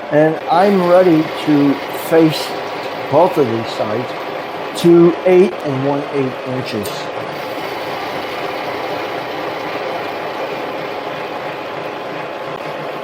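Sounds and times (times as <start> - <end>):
lathe machining steel: 0.0 - 13.0.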